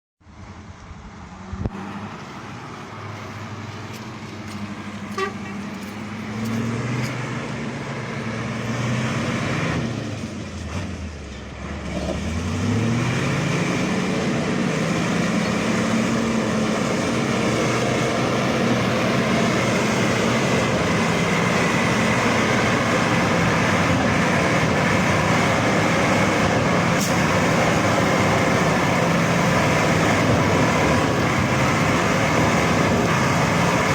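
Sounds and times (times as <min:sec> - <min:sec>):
off-road vehicle engine revving: 0:01.5 - 0:33.9.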